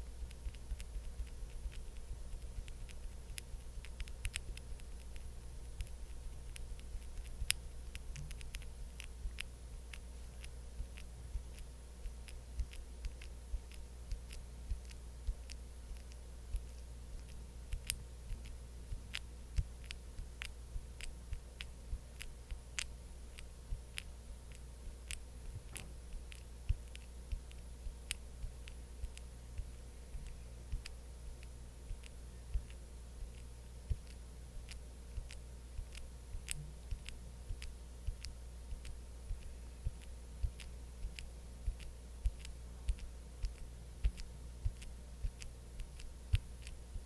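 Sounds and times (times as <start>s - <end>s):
soft sticky clicks and taps: 0.0s - 47.0s
steady low hum: 0.0s - 47.0s.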